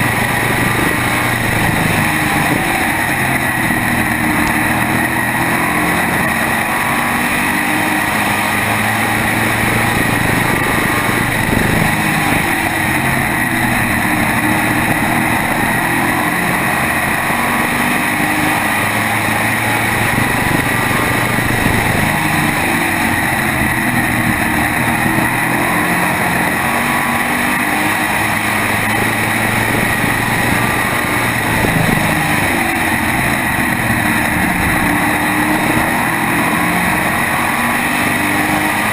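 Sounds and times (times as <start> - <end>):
race car engine running hard: 0.0 - 38.9
wind and tyre noise: 0.0 - 38.9.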